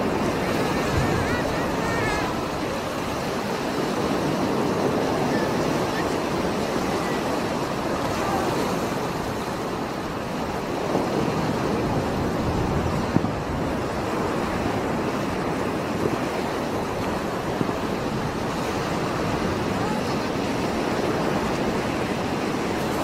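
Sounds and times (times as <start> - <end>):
heavy waves breaking on rocks: 0.0 - 23.0.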